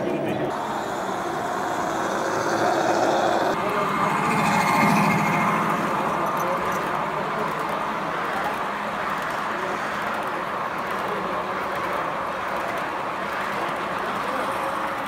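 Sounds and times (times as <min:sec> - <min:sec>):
faint murmur of voices: 0:00.0 - 0:01.6, 0:03.5 - 0:15.0
model train whirring past: 0:00.0 - 0:15.0.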